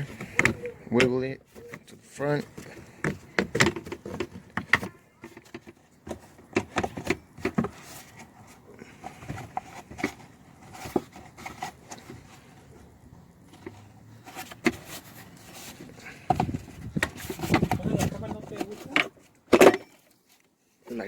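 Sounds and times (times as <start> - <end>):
plastic scraping: 0.0 - 20.0.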